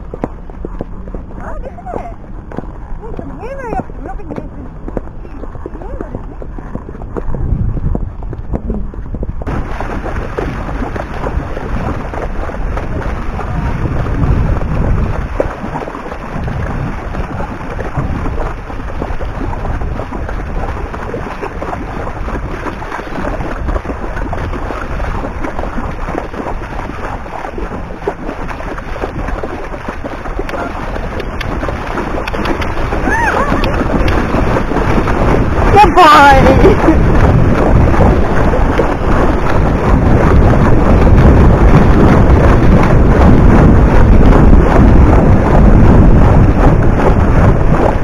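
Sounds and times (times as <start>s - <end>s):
hooves splashing through water: 0.0s - 48.0s
wind on microphone: 0.0s - 48.0s.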